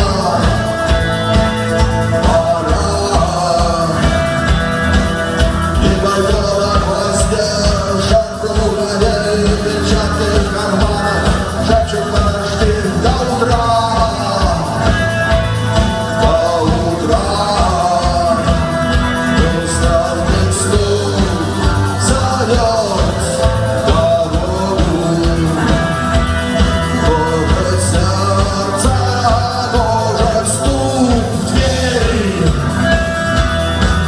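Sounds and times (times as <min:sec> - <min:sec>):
band playing a song: 0:00.0 - 0:34.0
person singing: 0:00.0 - 0:34.0
steady drum beat: 0:00.0 - 0:34.0.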